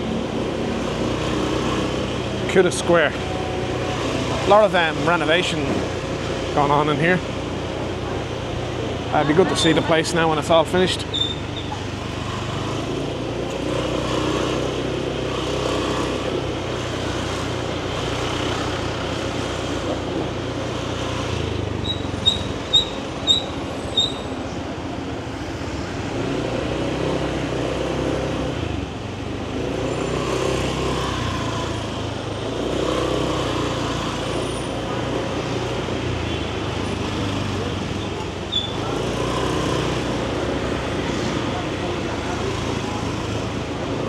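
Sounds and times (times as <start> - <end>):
motor scooter engine: 0.0 - 44.0.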